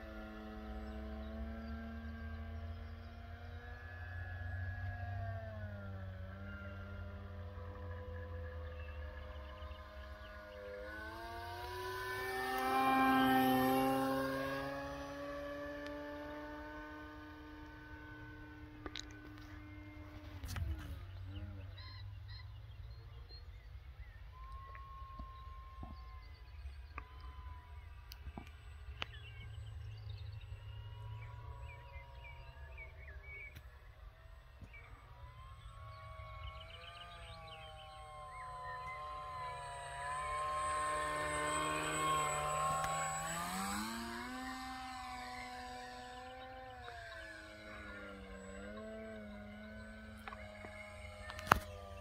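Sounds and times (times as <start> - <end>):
electric model plane motor whine: 0.0 - 52.0.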